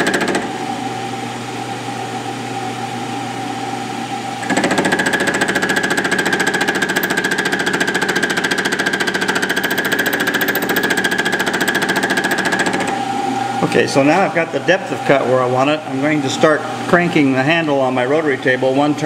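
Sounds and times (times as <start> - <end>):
motor hum: 0.0 - 19.0.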